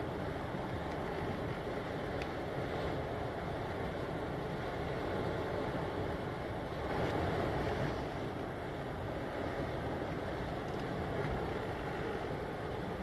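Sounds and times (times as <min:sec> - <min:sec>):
waves on choppy water: 0:00.0 - 0:13.0.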